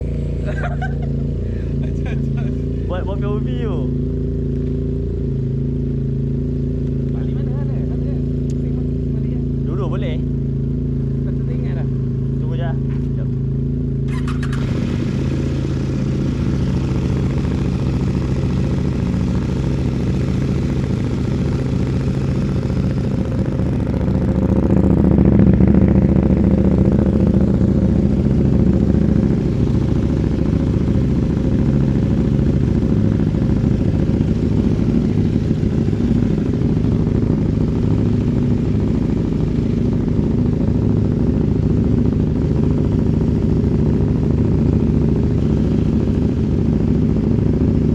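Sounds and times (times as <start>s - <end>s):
motorcycle engine idling: 0.0s - 47.9s.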